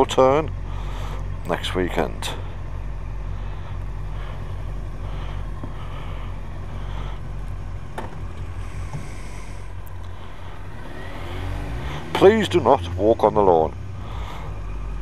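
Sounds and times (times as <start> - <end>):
motorcycle engine low rumble: 0.0 - 15.0.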